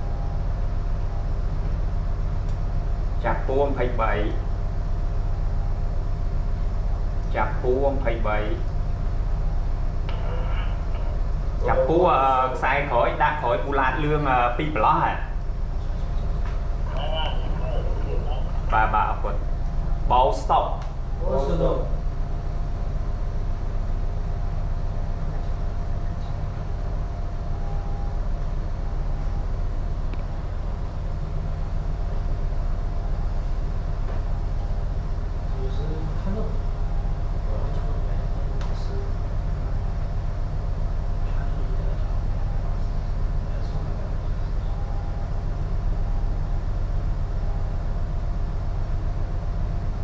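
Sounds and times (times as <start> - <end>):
faint machinery hum: 0.0 - 50.0
ship low rumble: 0.0 - 50.0.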